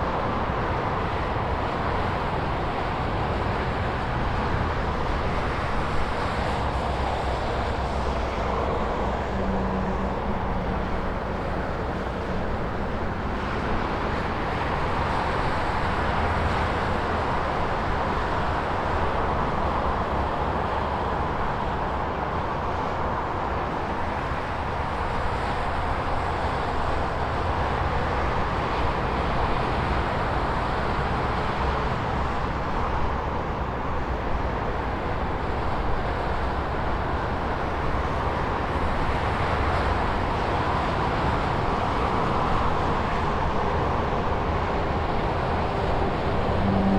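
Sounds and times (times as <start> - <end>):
highway traffic passing: 0.0 - 46.9.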